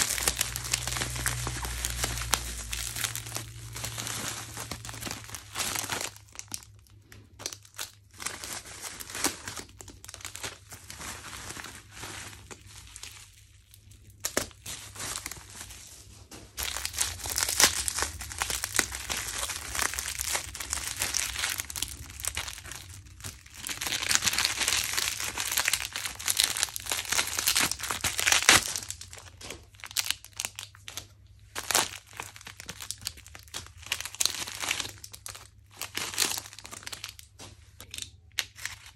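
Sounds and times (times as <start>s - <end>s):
bubble wrap crinkling: 0.0s - 38.9s.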